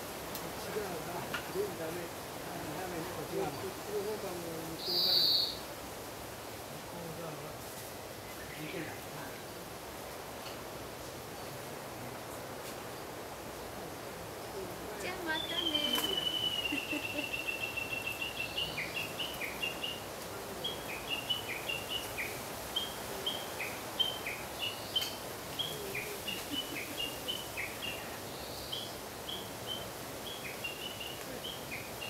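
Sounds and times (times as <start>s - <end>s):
outdoor background noise: 0.0s - 32.0s
songbird singing: 0.1s - 5.8s, 7.9s - 9.7s, 11.2s - 32.0s.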